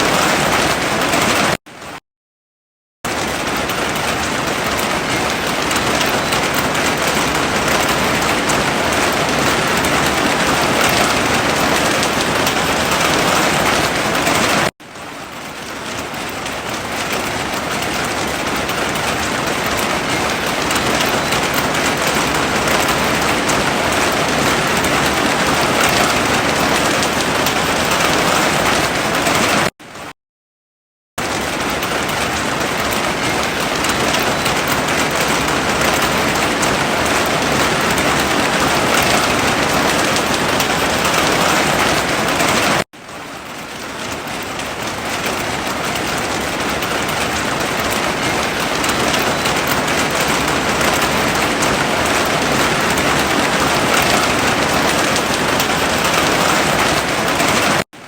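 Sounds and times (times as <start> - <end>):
heavy rain falling: 0.0 - 2.0, 3.1 - 30.1, 31.2 - 58.0.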